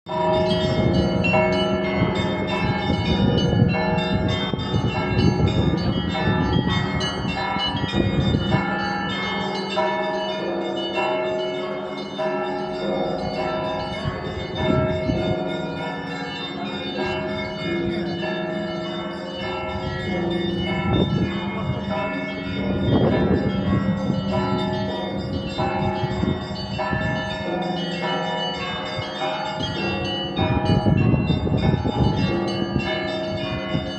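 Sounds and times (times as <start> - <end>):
church bells ringing: 0.1 - 33.9
low hum of large bell: 0.1 - 33.9.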